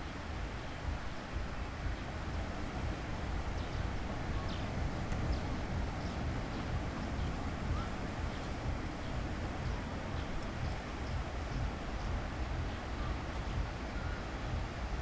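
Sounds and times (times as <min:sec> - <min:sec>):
sea waves washing on a beach: 0:00.0 - 0:15.0
wind rumble on microphone: 0:00.0 - 0:15.0.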